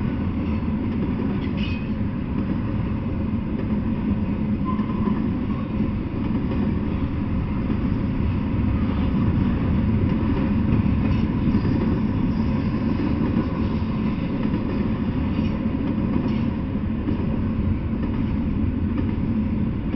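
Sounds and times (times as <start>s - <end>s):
freight train wheels rolling: 0.0s - 19.9s.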